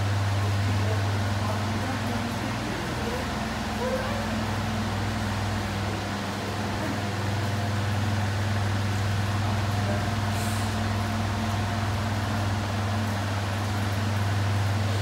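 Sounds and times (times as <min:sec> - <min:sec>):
electric fans humming: 0:00.0 - 0:15.0.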